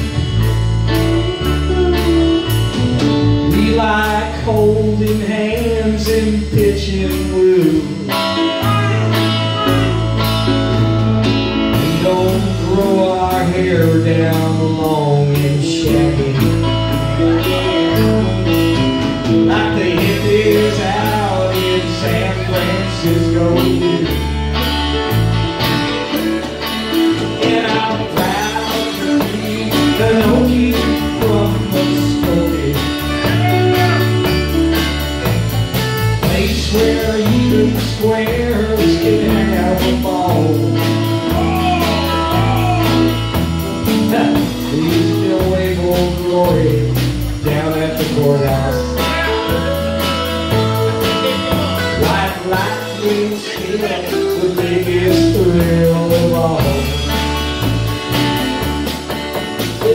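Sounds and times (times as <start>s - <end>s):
drums: 0.0s - 59.9s
electric bass: 0.0s - 59.9s
electric guitars: 0.0s - 59.9s.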